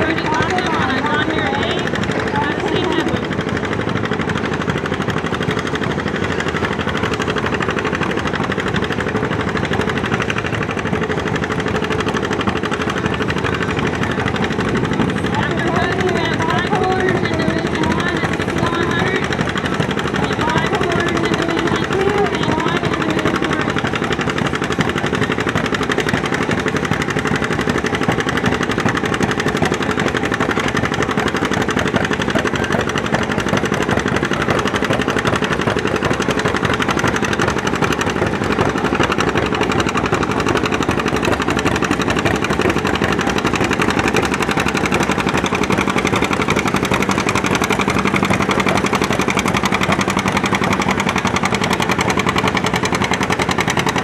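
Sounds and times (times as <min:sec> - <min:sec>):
tractor engine exhaust popping: 0:00.0 - 0:54.0.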